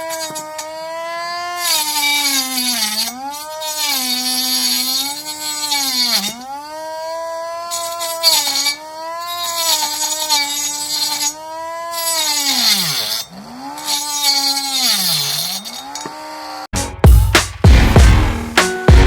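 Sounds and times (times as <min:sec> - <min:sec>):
grinder motor whining: 0:00.0 - 0:16.7.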